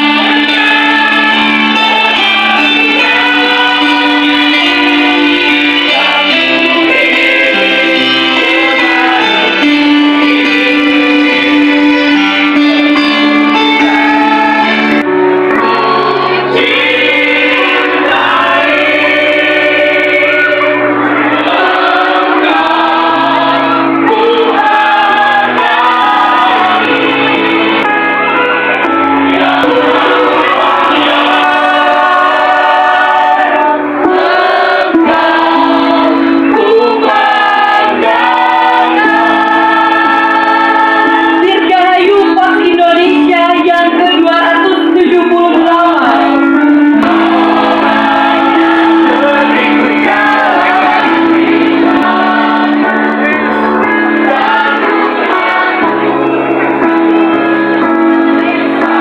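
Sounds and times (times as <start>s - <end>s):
choir singing: 0.0s - 59.0s
musical accompaniment: 0.0s - 59.0s.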